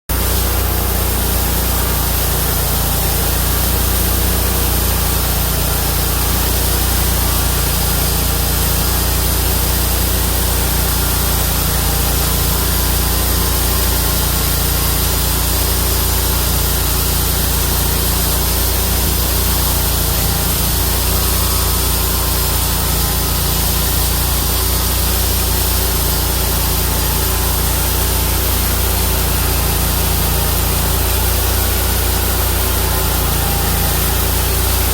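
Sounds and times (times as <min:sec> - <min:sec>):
band blade sawing through log: 0:00.1 - 0:34.9
sawmill engine running: 0:00.1 - 0:34.9.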